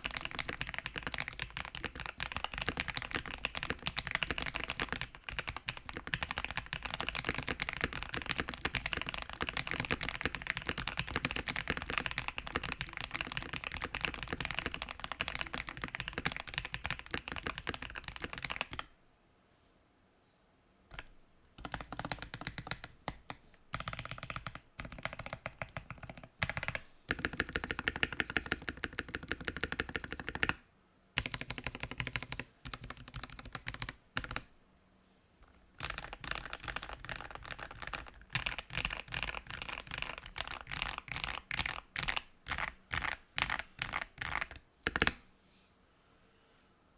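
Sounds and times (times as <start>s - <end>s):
mechanical keyboard typing: 0.0s - 18.9s, 20.9s - 30.6s, 31.2s - 34.5s, 35.4s - 45.2s.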